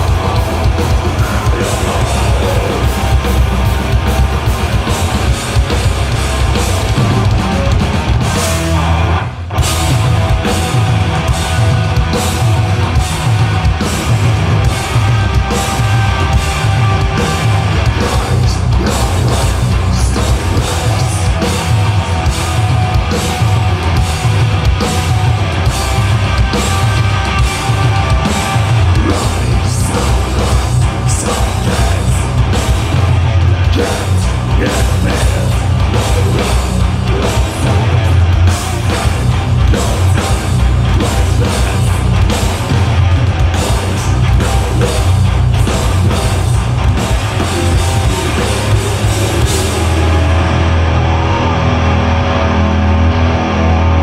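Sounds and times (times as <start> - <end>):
pounding drums: 0.0 - 51.4
distorted guitars and bass: 0.0 - 54.0.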